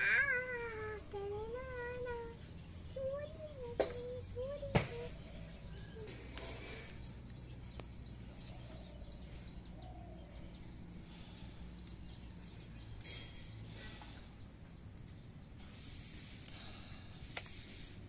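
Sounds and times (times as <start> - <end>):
small bird chirping: 0.0 - 17.6
low background hum: 0.0 - 18.0.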